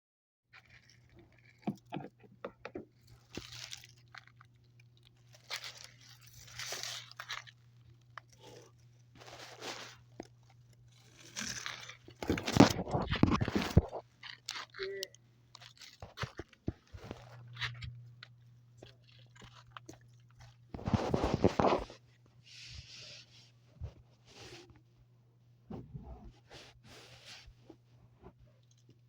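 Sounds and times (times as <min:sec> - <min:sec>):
crunching and rustling: 0:00.6 - 0:24.9
faint steady hum: 0:00.6 - 0:29.0.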